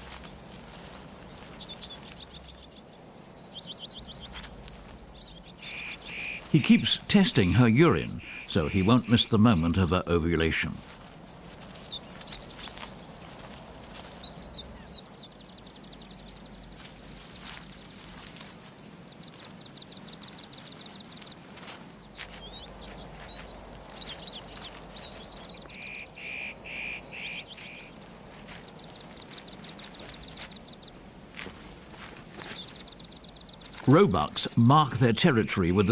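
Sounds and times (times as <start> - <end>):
birds trilling and chirping: 0.0 - 35.9
low evenly spaced bird calls: 0.0 - 35.9.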